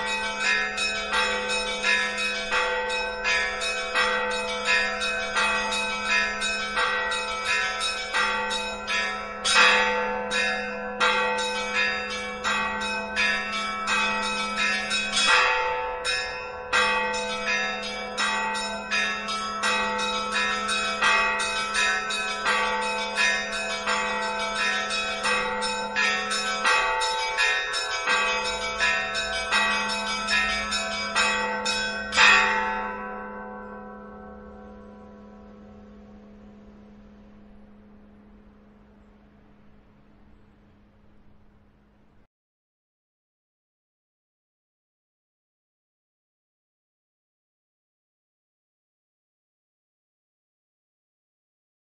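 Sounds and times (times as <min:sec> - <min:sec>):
church bells ringing: 0:00.0 - 0:42.0.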